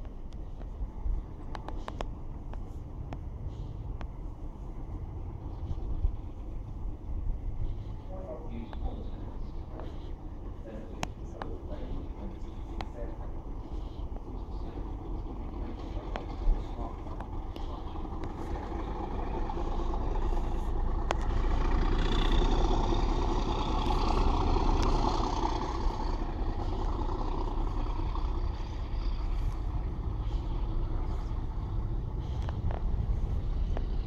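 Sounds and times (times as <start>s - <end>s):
train rumbling: 0.0s - 34.0s
wind buffeting microphone: 0.0s - 34.0s.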